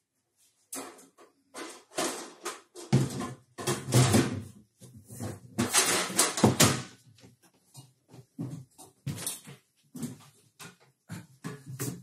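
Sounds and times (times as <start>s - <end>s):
wooden panels knocking and scraping: 0.8s - 12.0s.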